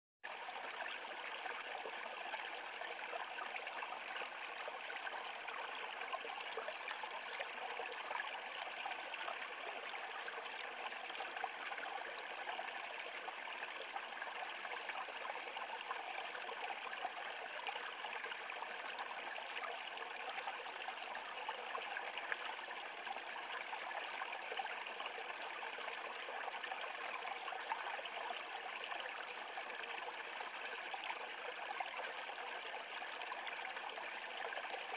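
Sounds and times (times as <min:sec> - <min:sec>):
brook babbling over rocks: 0:00.3 - 0:34.9.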